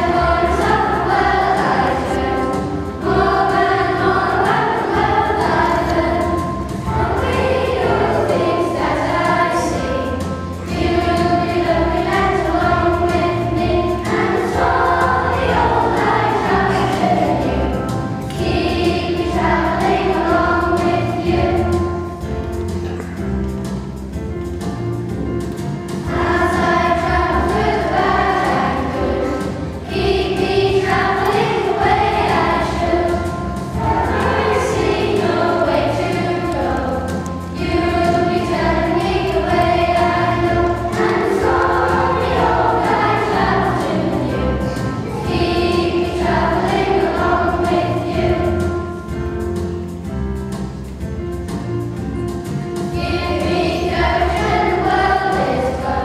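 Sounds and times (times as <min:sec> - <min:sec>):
children's choir singing: 0:00.0 - 0:50.0, 0:52.4 - 0:56.0.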